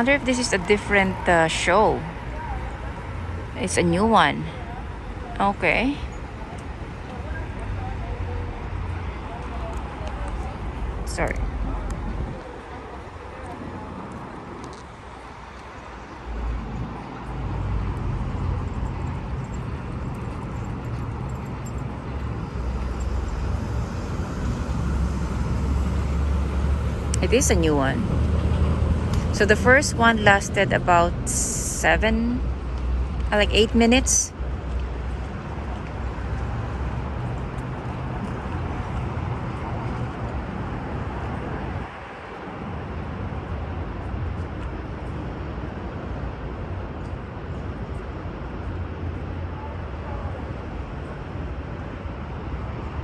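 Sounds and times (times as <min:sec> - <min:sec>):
city background rumble: 0:00.0 - 0:53.0.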